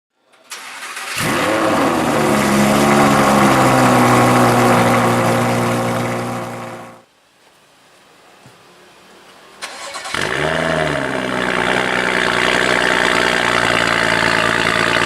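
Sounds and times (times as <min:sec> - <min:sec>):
car engine starting and idling: 0:00.2 - 0:07.0, 0:09.6 - 0:15.0.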